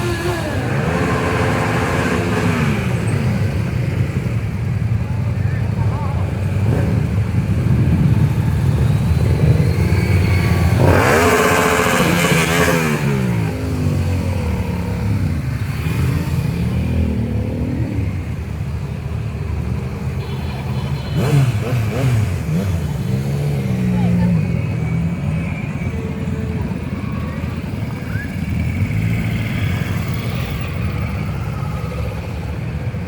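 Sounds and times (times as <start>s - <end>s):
motorcycle engines rumbling: 0.0s - 33.0s
motorcycle revving: 0.0s - 33.0s.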